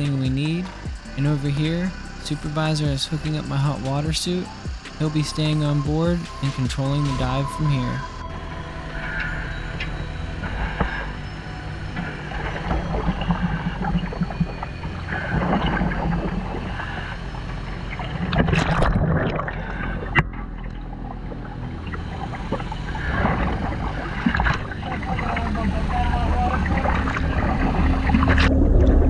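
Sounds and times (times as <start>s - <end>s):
low machine hum: 0.0s - 29.0s
water sloshing and bubbling: 0.0s - 29.0s.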